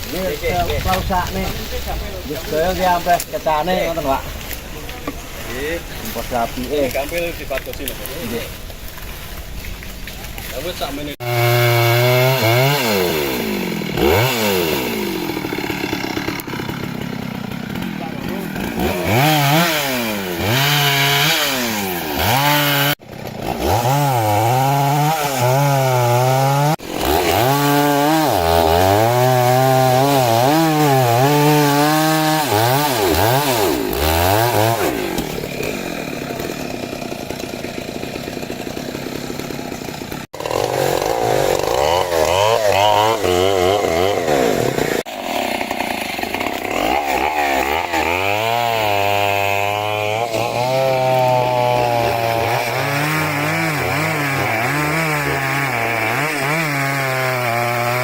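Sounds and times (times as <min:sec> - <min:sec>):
chainsaw cutting wood: 0:00.0 - 0:08.4, 0:10.3 - 0:58.0.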